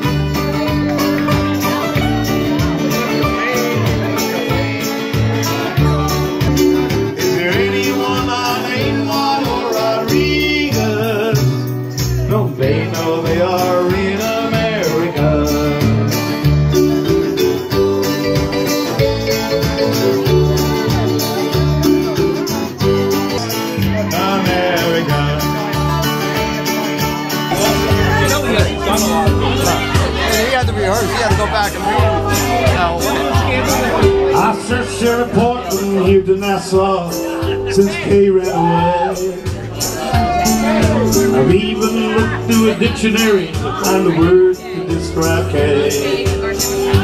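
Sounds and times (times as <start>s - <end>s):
bass line: 0.0s - 47.0s
electric keyboard: 0.0s - 47.0s
strummed acoustic guitar: 0.0s - 47.0s.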